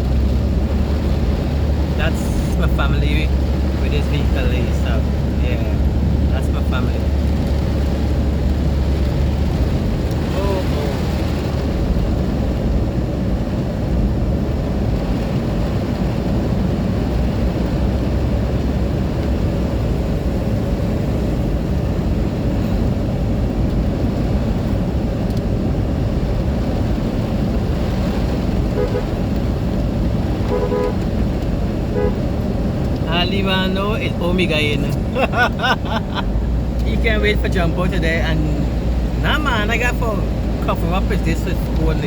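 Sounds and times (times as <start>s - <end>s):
car rumble from inside: 0.0s - 42.0s.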